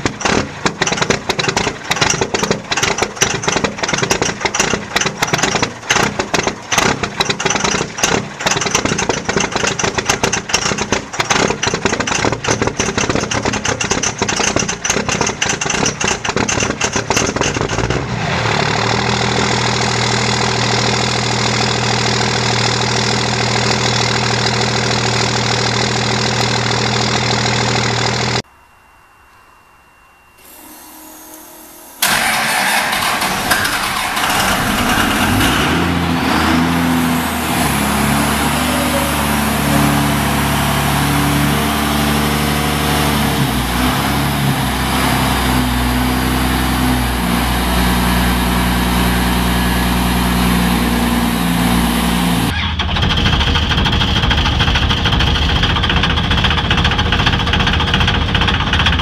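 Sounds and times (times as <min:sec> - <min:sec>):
diesel engine idling clatter: 0:00.0 - 0:28.4, 0:32.0 - 0:59.0
diesel engine revving: 0:00.0 - 0:28.4, 0:32.0 - 0:59.0.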